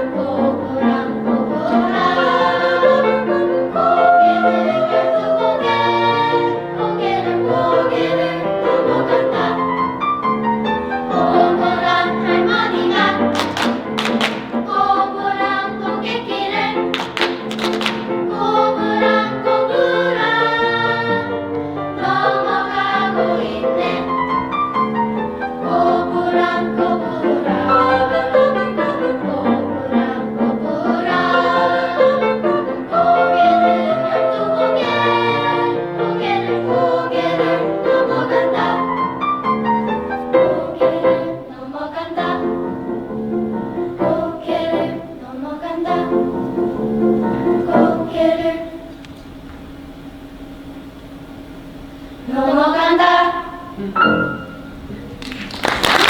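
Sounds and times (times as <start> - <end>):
choir singing in parts: 0.0 - 49.1, 52.1 - 54.9.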